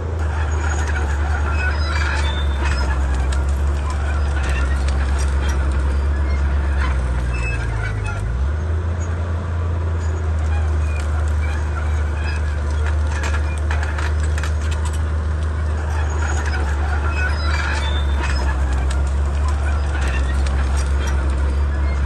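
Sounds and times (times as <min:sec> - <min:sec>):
bulldozer diesel engine drone: 0:00.0 - 0:22.0
brush crackling and clattering: 0:00.2 - 0:08.3, 0:10.4 - 0:22.0.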